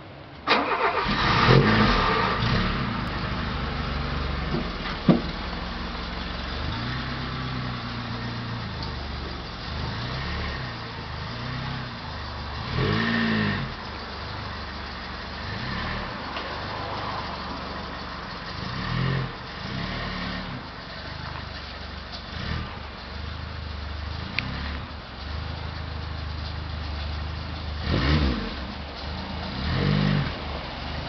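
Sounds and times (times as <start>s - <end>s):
car engine starting and idling: 0.0s - 31.0s.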